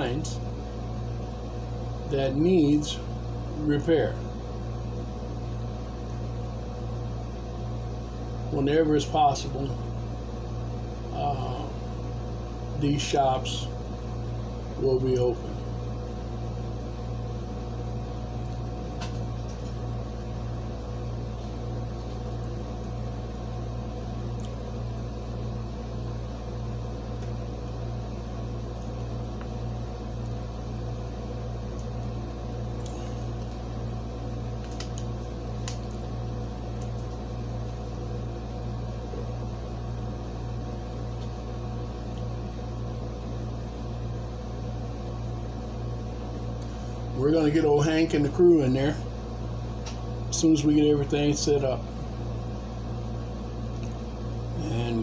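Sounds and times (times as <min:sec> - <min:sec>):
air conditioner humming: 0:00.0 - 0:55.0.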